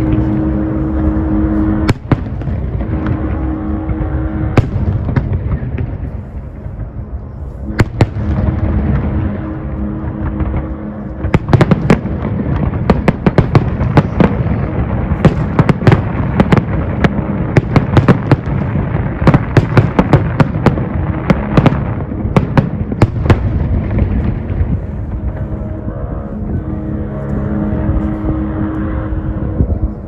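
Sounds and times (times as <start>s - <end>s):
fireworks cracking and banging: 0.0s - 7.0s, 7.7s - 25.7s
continuous low rumble: 0.0s - 30.0s.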